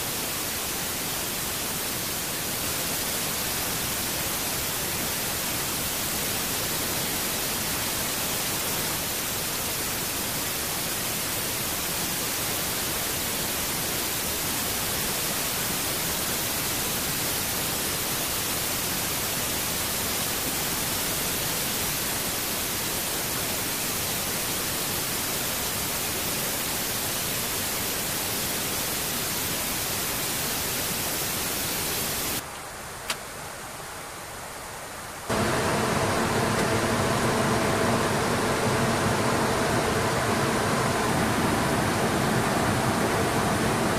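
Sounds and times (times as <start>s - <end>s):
aircraft cabin hiss: 0.0s - 33.3s, 35.3s - 43.9s.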